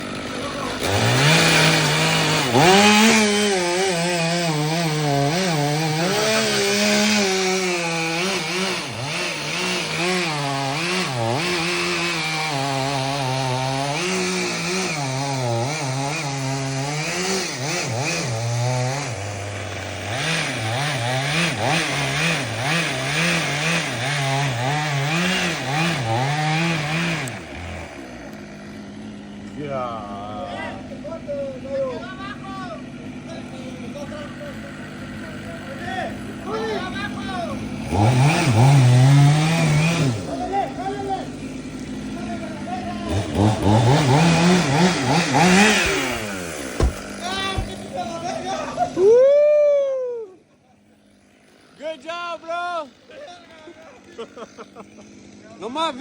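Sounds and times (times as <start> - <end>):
chainsaw cutting wood: 0.0 - 49.3, 50.5 - 56.0.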